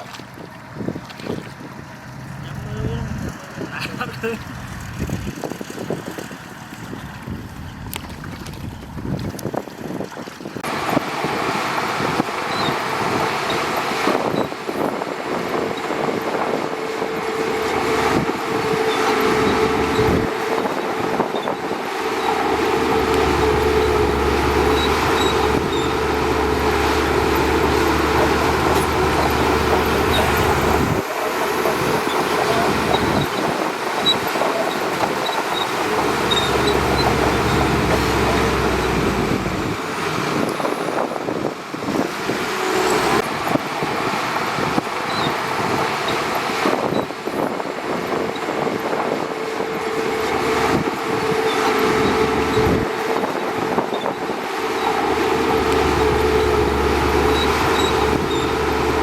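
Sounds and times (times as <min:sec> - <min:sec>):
deeper rumble: 0:01.6 - 0:09.4, 0:10.7 - 0:44.2, 0:46.6 - 0:59.0
bulldozer diesel engine running: 0:01.6 - 0:59.0.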